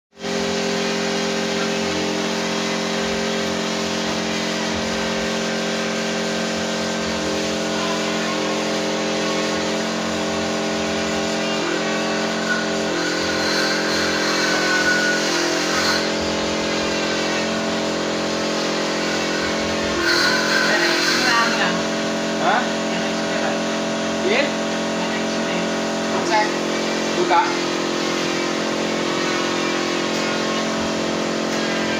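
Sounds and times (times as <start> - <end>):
machine humming: 0.2 - 31.9.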